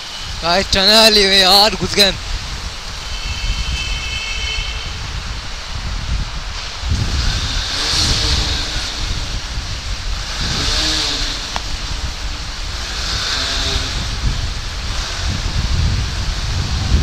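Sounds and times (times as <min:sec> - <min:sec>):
motorcycle engine in tunnel: 0:00.0 - 0:17.0
wind rumble: 0:00.0 - 0:17.0.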